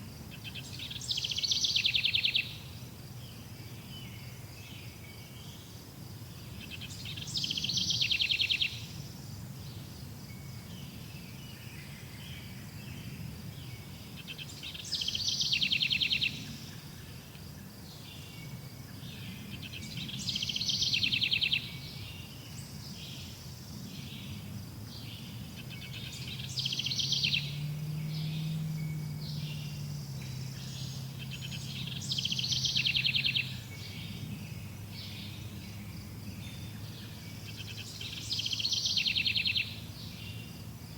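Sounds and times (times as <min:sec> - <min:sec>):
songbird singing with trill: 0:00.0 - 0:40.9.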